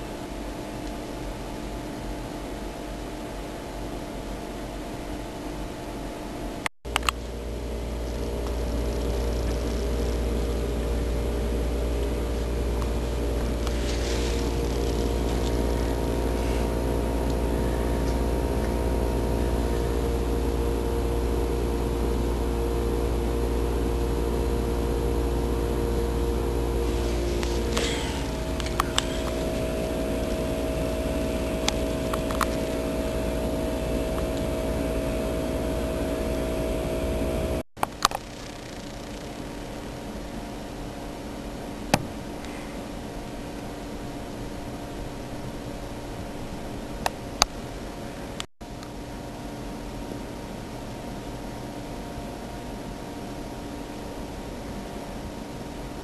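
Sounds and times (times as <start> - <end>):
machine hum with low rumble: 0.0 - 56.0.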